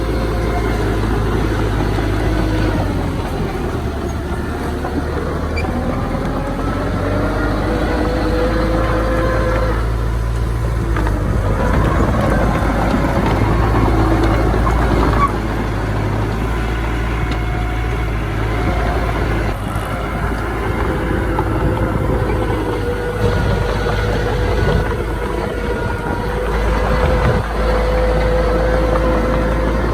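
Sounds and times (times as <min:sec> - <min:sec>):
heavy machinery diesel engine rumbling: 0:00.0 - 0:29.9
thin whining tones: 0:00.0 - 0:29.9.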